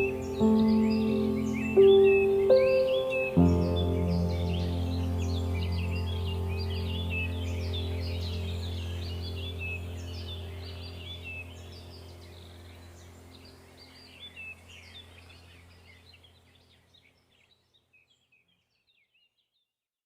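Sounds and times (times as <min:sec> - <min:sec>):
low steady hum: 0:00.0 - 0:16.8
birds chirping: 0:00.0 - 0:19.6.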